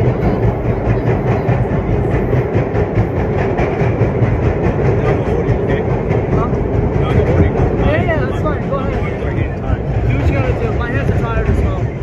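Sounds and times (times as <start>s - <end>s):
subway wheels rumbling on rails: 0.0s - 12.0s.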